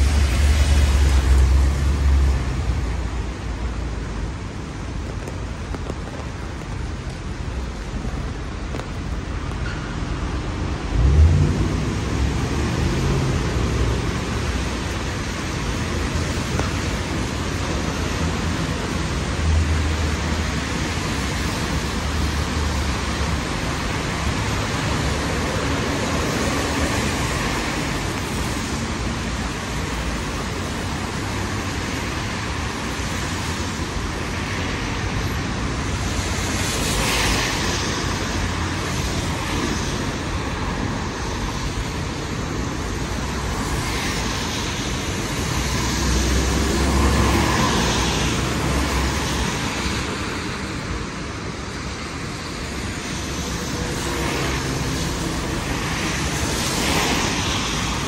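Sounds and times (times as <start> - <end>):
car tyres on wet street: 0.0 - 58.0
low rumble of passing traffic: 0.0 - 58.0
rain hiss: 0.0 - 58.0.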